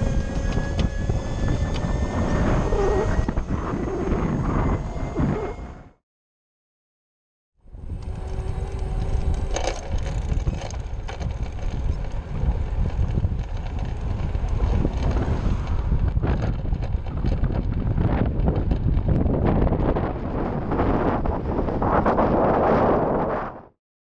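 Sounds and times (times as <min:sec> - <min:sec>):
bicycle tyre and road noise: 0:00.0 - 0:05.9, 0:07.6 - 0:23.6
wind rushing over microphone: 0:00.0 - 0:06.0, 0:07.7 - 0:23.8.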